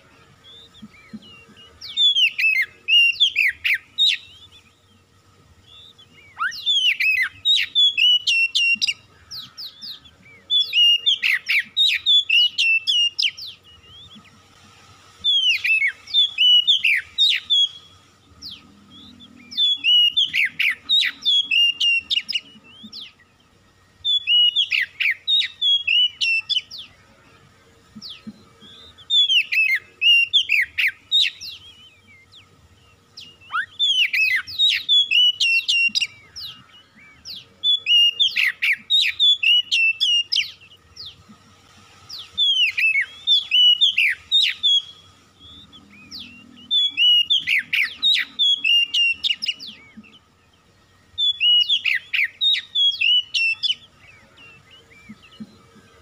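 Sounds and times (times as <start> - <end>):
bird whistling and trilling: 0.4 - 5.0, 5.6 - 14.3, 15.2 - 23.3, 24.0 - 27.0, 28.0 - 41.2, 42.1 - 50.4, 51.1 - 55.6.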